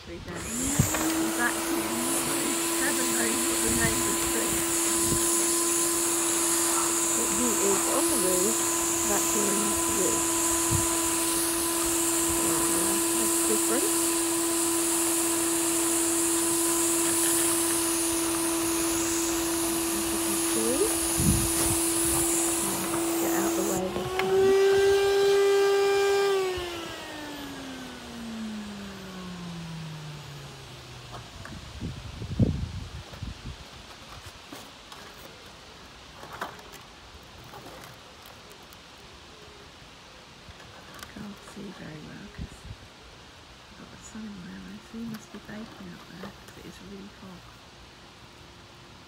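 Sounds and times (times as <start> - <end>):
vacuum cleaner running: 0.0 - 35.3, 40.6 - 42.7, 43.6 - 47.4
faint outdoor background noise: 0.0 - 49.0.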